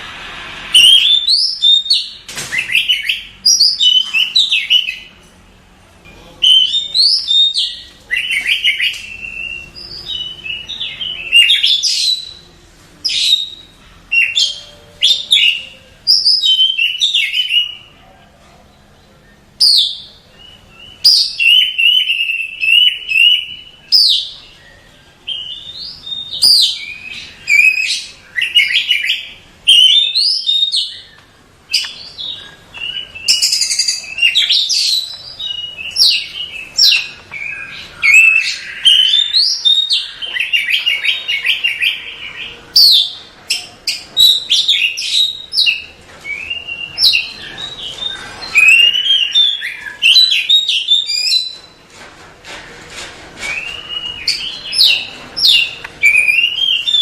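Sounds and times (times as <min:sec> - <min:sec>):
songbird singing whistled notes: 0:00.7 - 0:05.1, 0:06.1 - 0:17.9, 0:19.0 - 0:51.8, 0:53.4 - 0:57.0.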